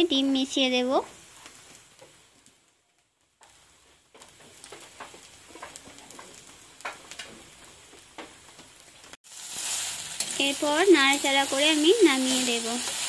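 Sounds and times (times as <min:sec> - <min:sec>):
faint frying sizzle: 0:00.0 - 0:13.0.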